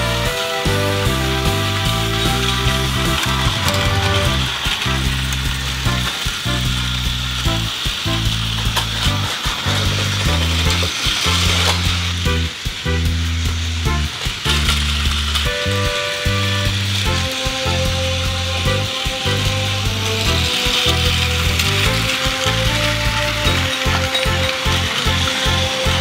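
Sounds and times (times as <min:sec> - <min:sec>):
background music: 0:00.0 - 0:26.0
toy train motor whirring: 0:00.0 - 0:26.0
wheels clicking over track joints: 0:00.0 - 0:26.0.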